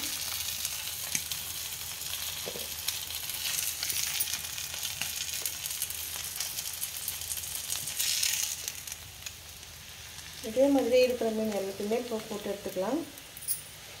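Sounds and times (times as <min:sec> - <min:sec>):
fish sizzling in oil: 0:00.0 - 0:14.0
small crackles of frying: 0:00.0 - 0:14.0.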